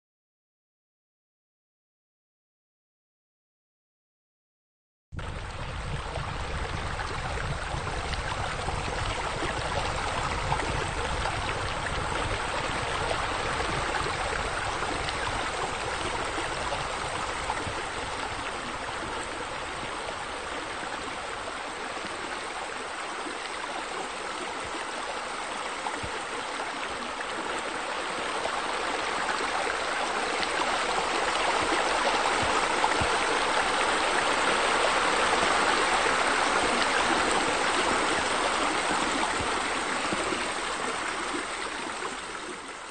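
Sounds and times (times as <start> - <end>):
water splashing from fountain: 5.2 - 42.9
waterfall spilling into pool: 5.2 - 42.9.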